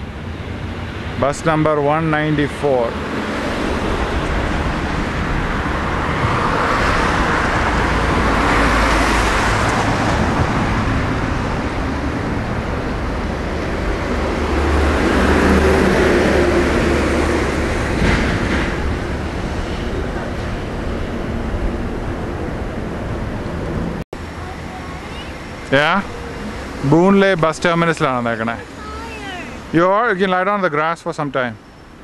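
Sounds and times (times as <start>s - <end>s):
low engine drone: 0.0s - 30.0s
motor vehicles passing: 0.0s - 32.0s.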